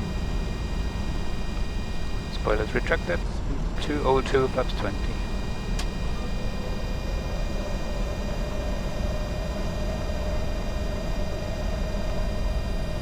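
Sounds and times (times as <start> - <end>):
faint steady tone: 0.0 - 13.0
jet cockpit airflow and engine hum: 0.0 - 13.0.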